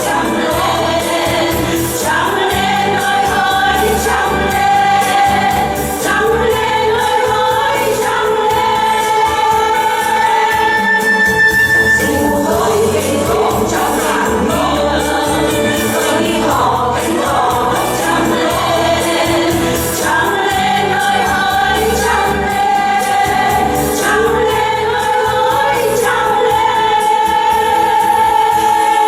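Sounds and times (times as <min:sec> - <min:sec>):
music with pulsing bass: 0:00.0 - 0:29.0
voices singing together: 0:00.0 - 0:29.0.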